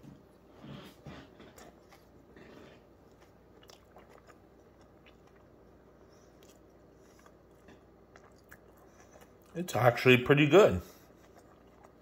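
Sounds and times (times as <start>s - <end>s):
faint chewing: 0.0s - 9.7s, 10.8s - 12.0s.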